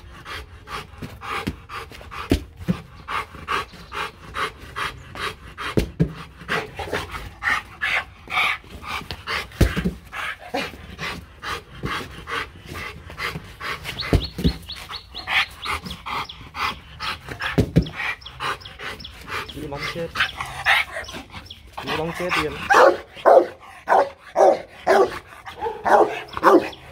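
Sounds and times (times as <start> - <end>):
dog panting fast: 0.0 - 26.9.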